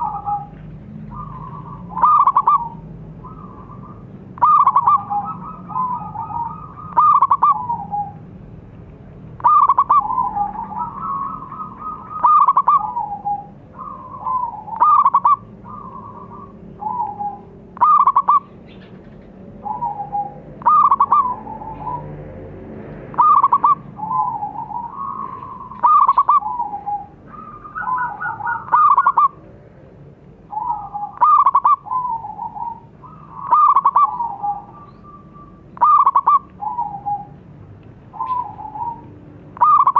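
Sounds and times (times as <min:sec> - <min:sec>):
dove cooing: 0:00.0 - 0:08.3, 0:09.4 - 0:22.2, 0:23.1 - 0:29.5, 0:30.5 - 0:37.5, 0:38.1 - 0:39.9.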